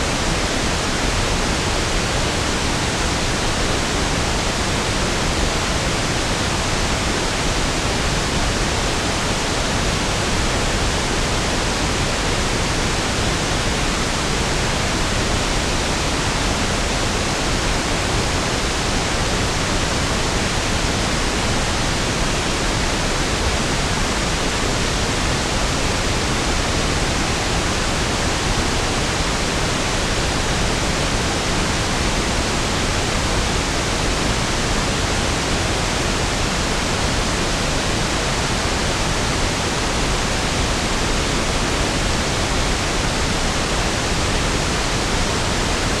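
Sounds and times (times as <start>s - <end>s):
pink noise hiss: 0.0s - 46.0s.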